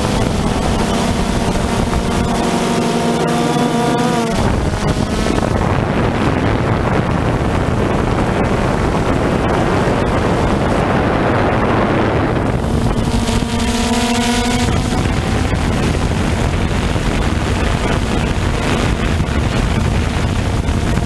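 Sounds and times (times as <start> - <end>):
drone propellers humming: 0.0 - 21.0
wind rushing over microphone: 0.0 - 21.0.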